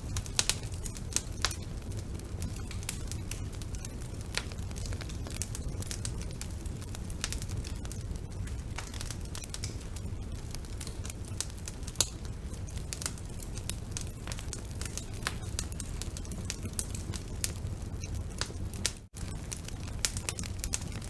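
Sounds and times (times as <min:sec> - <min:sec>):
burning wood crackles and pops: 0:00.0 - 0:21.0
low rumble of flames: 0:00.0 - 0:21.0.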